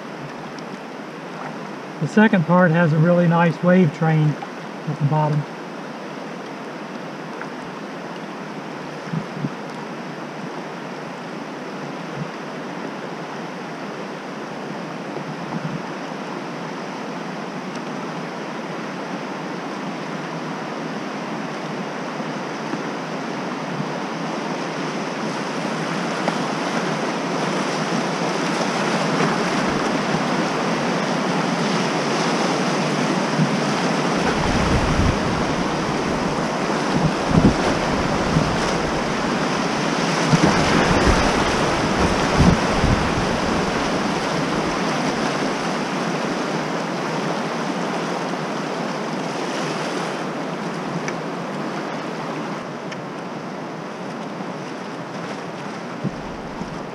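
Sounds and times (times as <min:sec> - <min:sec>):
river rapid rushing water: 0:00.0 - 0:56.9.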